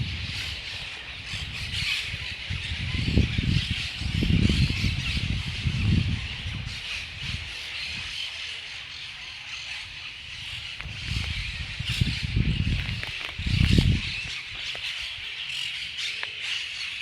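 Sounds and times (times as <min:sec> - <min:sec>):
low rumbling wind gusts: 0:00.0 - 0:15.3.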